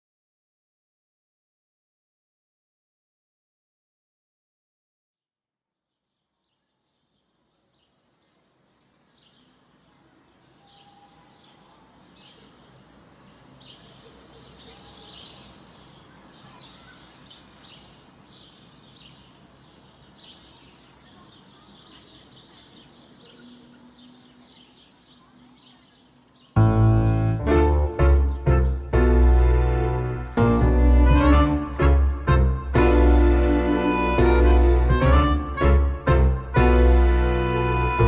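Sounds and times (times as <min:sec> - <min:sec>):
faint outdoor background: 0:05.3 - 0:38.0
birds chirping: 0:06.4 - 0:38.0.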